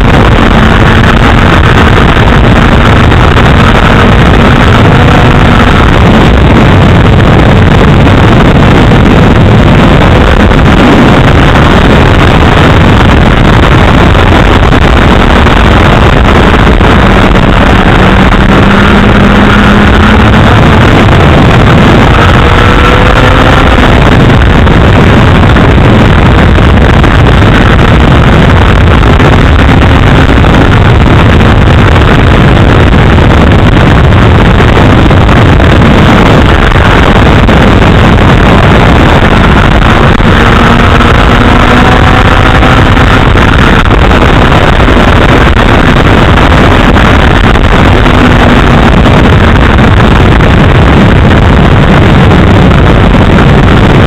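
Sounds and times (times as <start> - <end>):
wind blasting the microphone: 0.0 - 54.0.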